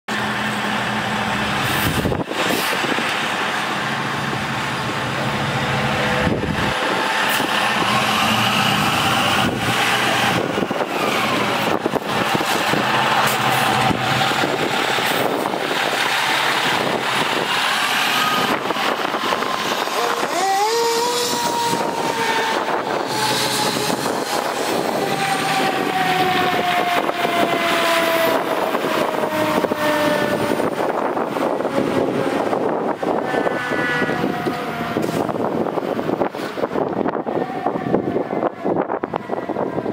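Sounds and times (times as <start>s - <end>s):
fire truck engine running: 0.1s - 33.2s
siren: 5.5s - 39.9s.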